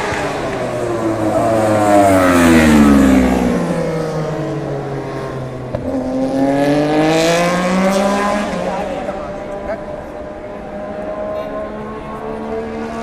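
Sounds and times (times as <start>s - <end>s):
racing engine revving: 0.0s - 13.0s.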